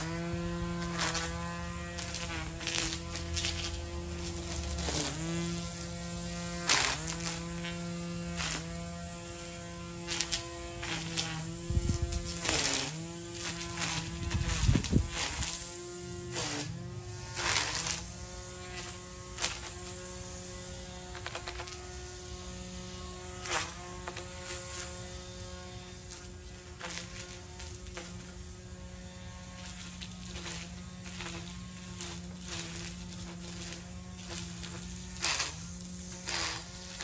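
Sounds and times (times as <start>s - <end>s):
trimmer cutting snaps: 0.0s - 22.0s, 23.1s - 37.0s
string trimmer motor hum: 0.0s - 37.0s.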